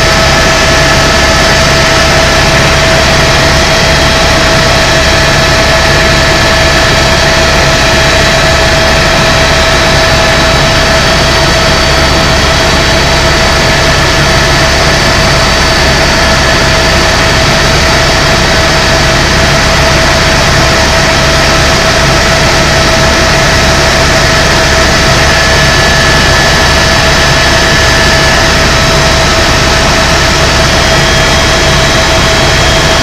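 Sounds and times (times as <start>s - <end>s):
helicopter rotor and engine drone: 0.0s - 33.0s.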